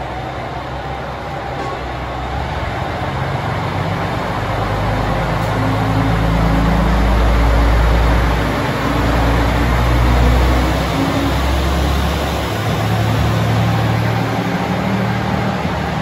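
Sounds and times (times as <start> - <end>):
diesel railcar engine drone: 0.0 - 16.0
wheel and rail noise: 0.0 - 16.0.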